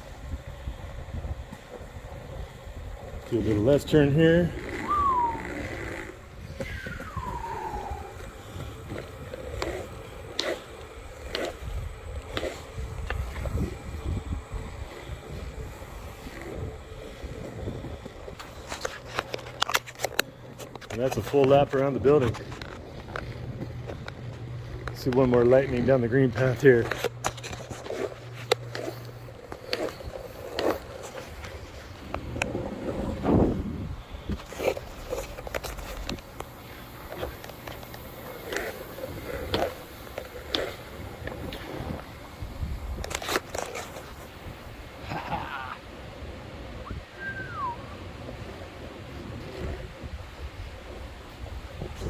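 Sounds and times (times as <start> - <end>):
skateboard wheels rolling on concrete: 0.0 - 52.0.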